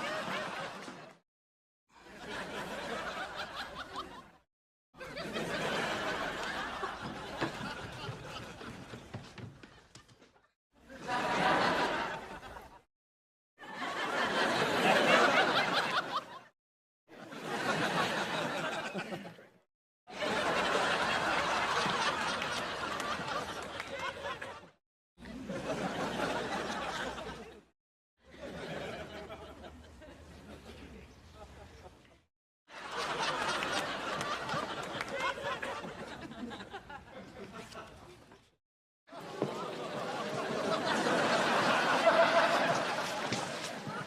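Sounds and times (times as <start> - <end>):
studio audience laughing: 0.0 - 1.2, 2.0 - 4.4, 5.0 - 12.9, 13.6 - 27.7, 28.3 - 44.0.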